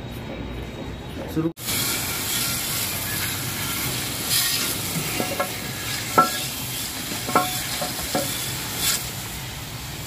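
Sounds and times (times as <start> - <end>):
water jet hissing on metal: 1.6 - 10.0.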